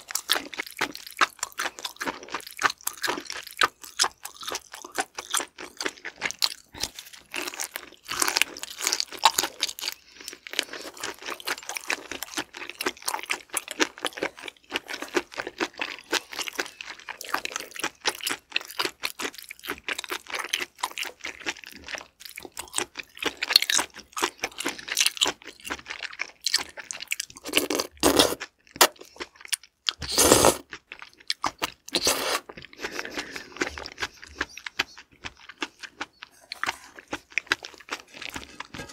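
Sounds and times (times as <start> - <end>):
wet chewing mouth clicks and squishes: 0.0 - 38.9.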